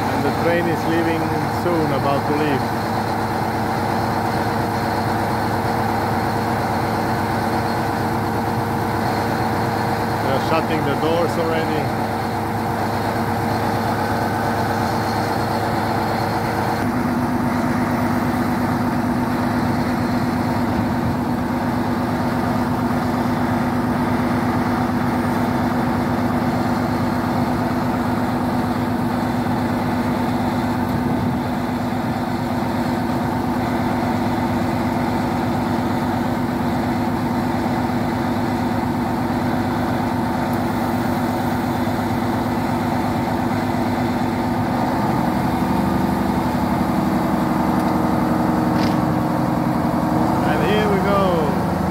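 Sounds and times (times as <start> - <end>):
diesel train engine idling: 0.0 - 51.9.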